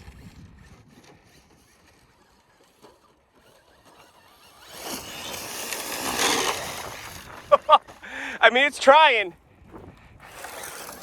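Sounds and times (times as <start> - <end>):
rc car churning dirt and gravel: 0.0 - 11.0.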